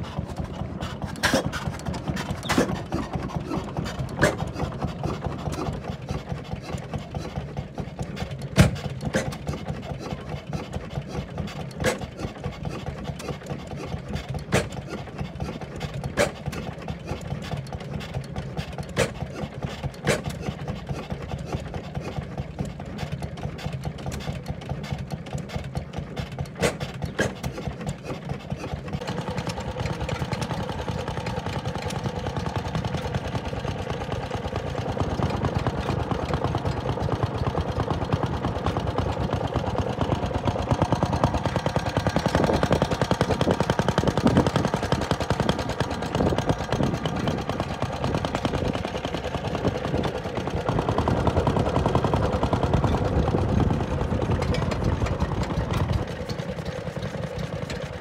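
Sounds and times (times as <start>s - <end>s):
stationary engine running: 0.0s - 58.0s.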